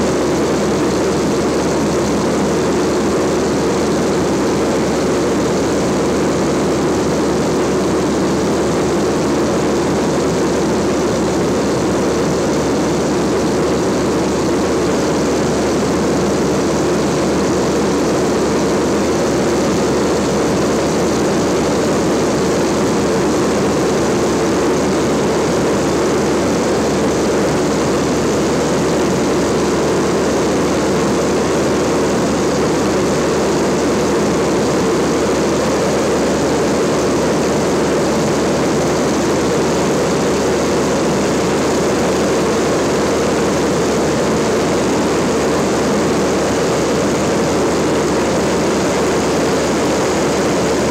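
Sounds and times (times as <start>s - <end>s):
propeller aircraft drone in cabin: 0.0s - 50.9s.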